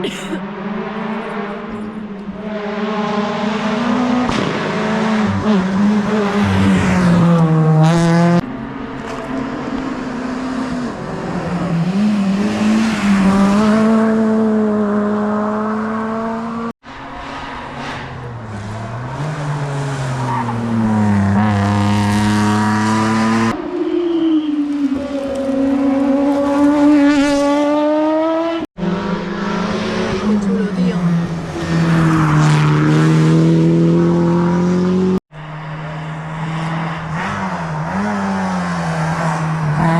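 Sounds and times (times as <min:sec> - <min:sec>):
rally car engines at full throttle: 0:00.0 - 0:39.9.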